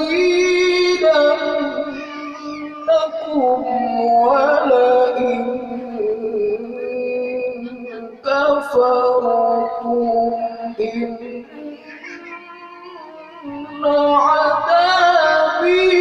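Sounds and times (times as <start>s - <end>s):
melodic recitation voice: 0.0s - 16.0s.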